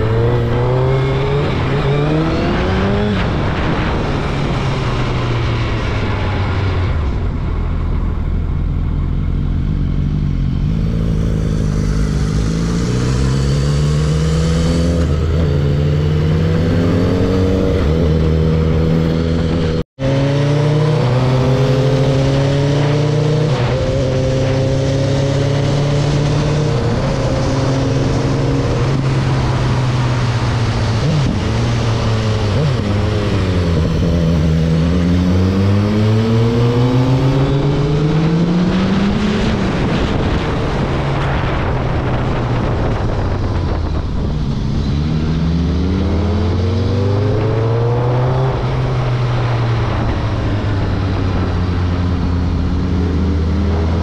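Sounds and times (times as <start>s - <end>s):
motorcycle engine shifting gears: 8.2s - 54.0s.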